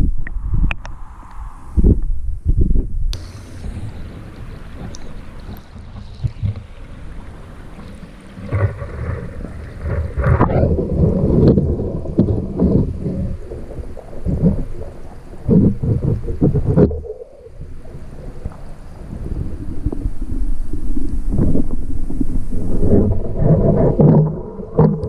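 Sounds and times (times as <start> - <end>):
muffled water rumbling and gurgling: 0.0 - 25.0.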